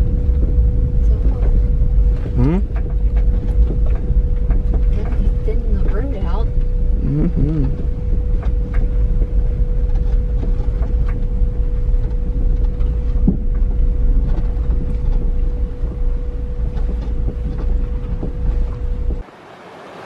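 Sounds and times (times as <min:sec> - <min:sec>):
small knocks and rattles: 0:00.0 - 0:06.7, 0:07.7 - 0:19.2
engine and tyres rumbling: 0:00.0 - 0:20.0
faint whine: 0:00.0 - 0:20.0.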